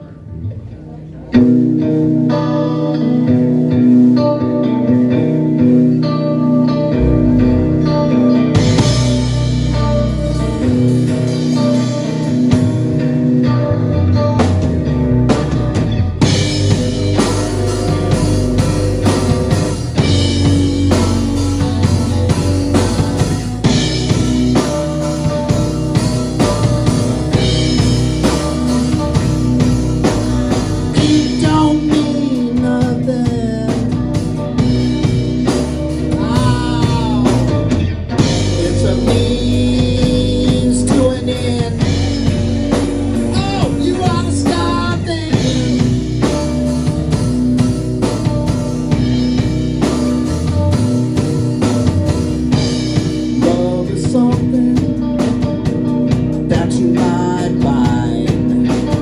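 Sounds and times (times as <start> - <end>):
electric bass: 0.0 - 59.0
electric guitar with bent notes: 0.0 - 59.0
drum kit: 6.7 - 59.0.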